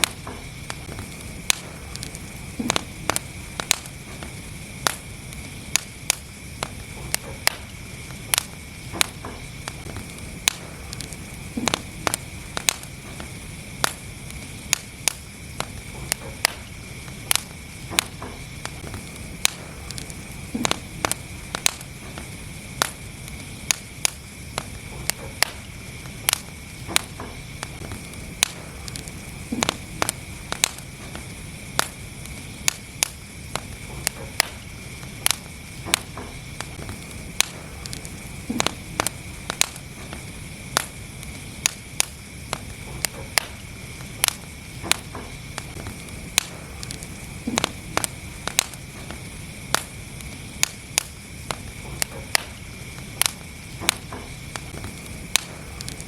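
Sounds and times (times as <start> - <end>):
low rumble of fire: 0.0 - 56.0
wood fire crackling and popping: 0.0 - 56.0.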